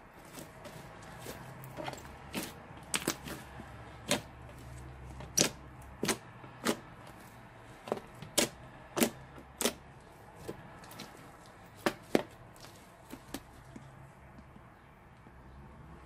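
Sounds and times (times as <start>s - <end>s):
slime being kneaded by hand: 0.0s - 14.9s.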